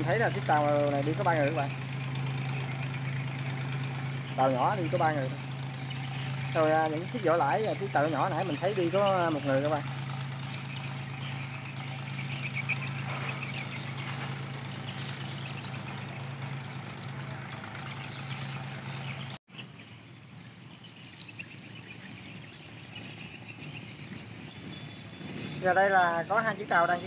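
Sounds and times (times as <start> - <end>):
boat diesel engine droning: 0.0 - 27.0.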